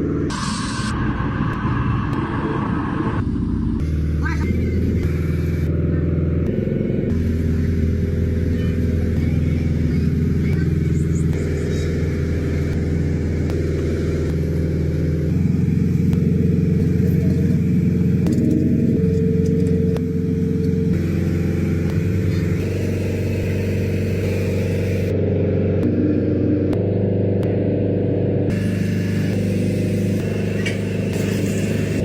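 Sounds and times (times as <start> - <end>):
motor droning: 0.0 - 32.0.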